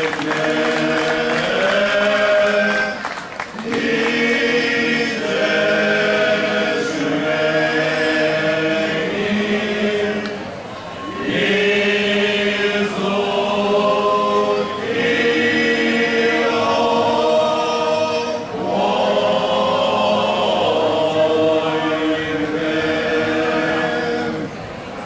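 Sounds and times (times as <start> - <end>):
group singing unaccompanied: 0.0 - 24.7.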